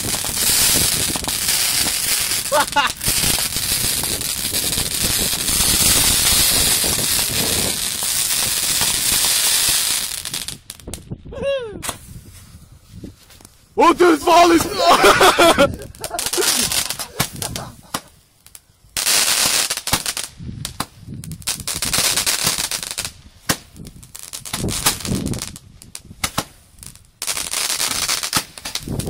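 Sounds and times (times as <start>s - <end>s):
fireworks popping and crackling: 0.0s - 11.1s, 11.8s - 12.4s, 15.6s - 29.0s.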